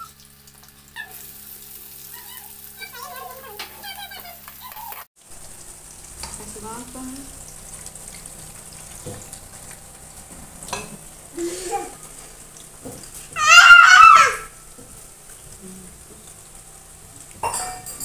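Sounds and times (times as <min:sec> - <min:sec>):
frying hiss: 0:00.0 - 0:18.0
onions sizzling in oil: 0:00.0 - 0:18.0.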